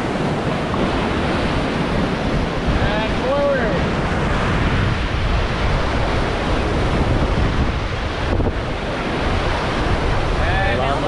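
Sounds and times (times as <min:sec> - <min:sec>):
rushing whitewater: 0:00.0 - 0:11.0
wind buffeting microphone: 0:00.0 - 0:11.0.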